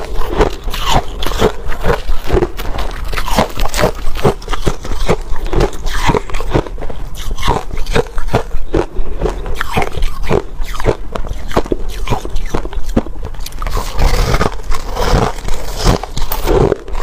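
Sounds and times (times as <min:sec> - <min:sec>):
crunching ice being chewed: 0:00.0 - 0:17.0.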